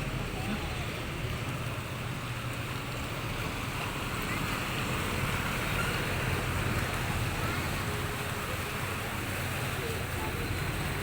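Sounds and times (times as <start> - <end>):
water washing: 0.0 - 11.0.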